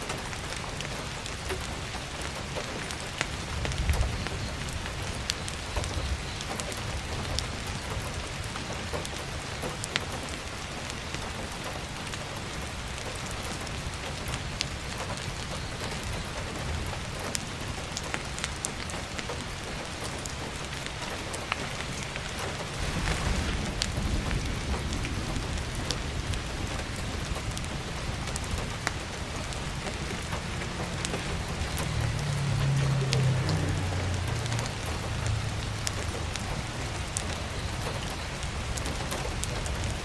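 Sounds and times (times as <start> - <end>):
heavy rain falling: 0.0 - 40.0
sharp crackles and ticks: 0.0 - 40.0.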